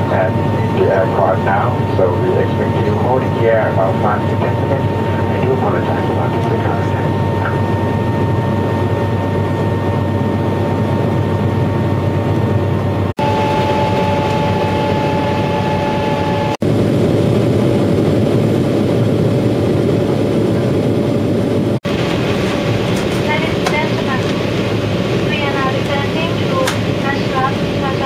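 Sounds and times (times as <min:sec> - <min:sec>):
jet engines and airflow rush: 0:00.0 - 0:28.0.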